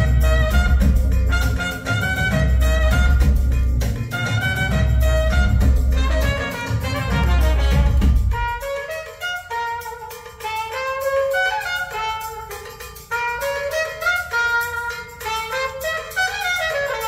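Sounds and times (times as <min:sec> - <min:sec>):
music over loudspeakers: 0:00.0 - 0:17.0.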